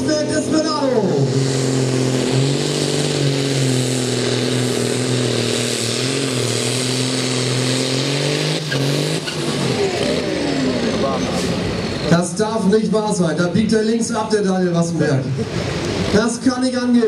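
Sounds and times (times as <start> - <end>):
diesel tractor engine under load: 0.0 - 16.9.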